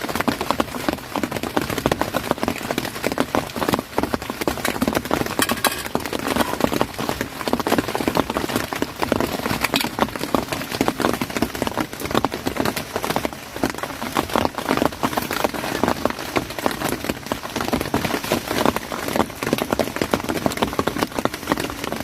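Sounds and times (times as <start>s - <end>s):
heavy rain patter: 0.0s - 22.0s.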